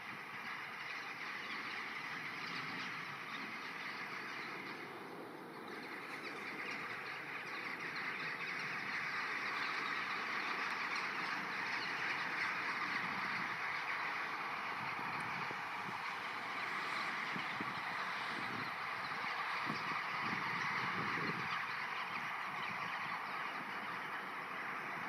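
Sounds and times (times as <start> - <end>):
flock of birds cawing: 0.0 - 25.0.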